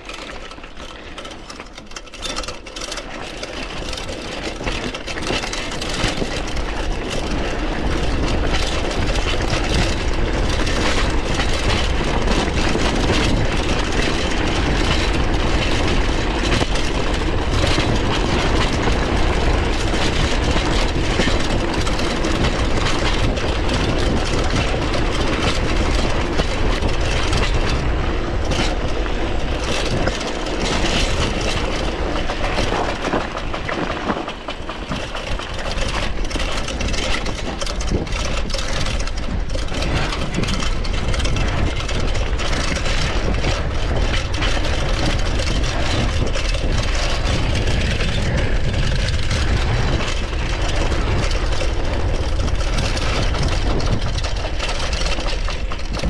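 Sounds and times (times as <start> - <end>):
bike rattling: 0.0 - 56.0
bike tyres crunching gravel: 3.0 - 56.0
wind buffeting microphone: 3.5 - 56.0.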